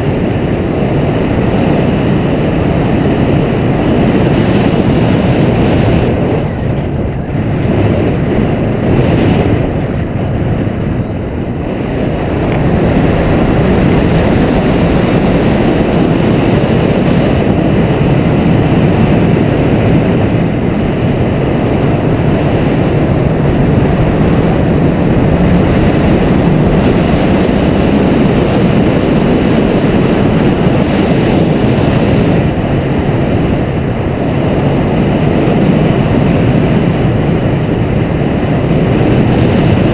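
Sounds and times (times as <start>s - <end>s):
deep wind roar: 0.0s - 39.9s.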